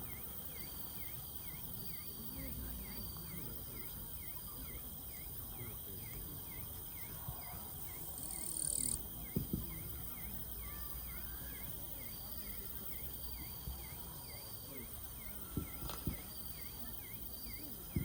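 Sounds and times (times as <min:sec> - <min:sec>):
insect chirping: 0:00.0 - 0:18.0
murmur of voices: 0:00.0 - 0:18.0.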